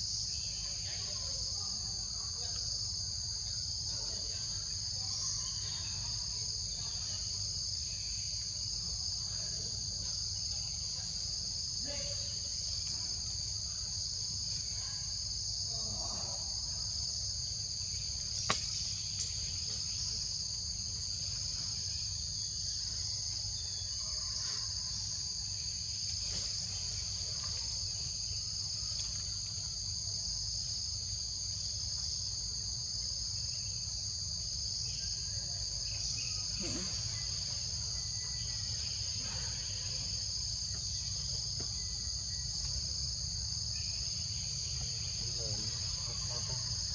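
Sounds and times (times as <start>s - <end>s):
insects buzzing: 0.0s - 46.9s.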